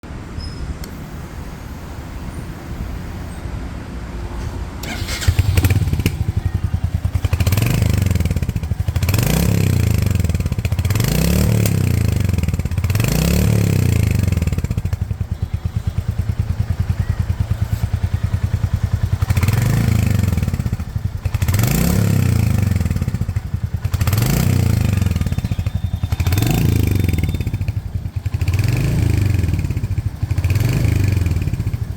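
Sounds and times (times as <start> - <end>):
motorcycle engine idling: 4.8 - 31.9
motorcycle engine revving: 4.8 - 31.9.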